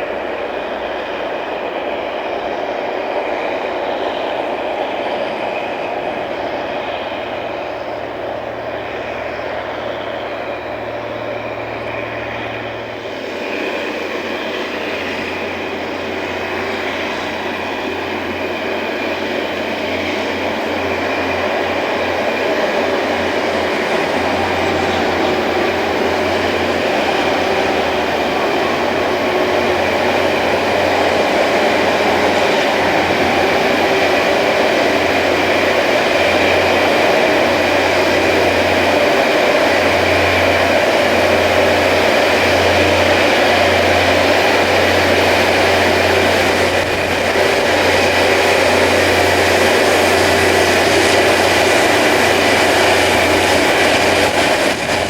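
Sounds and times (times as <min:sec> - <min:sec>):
rail grinding train grinding: 0:00.0 - 0:55.0.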